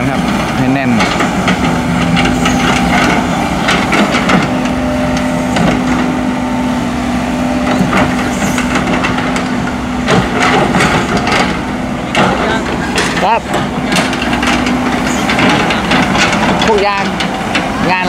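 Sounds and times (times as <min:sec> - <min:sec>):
bucket and tracks clanking: 0:00.0 - 0:18.0
excavator diesel engine running: 0:00.0 - 0:18.0.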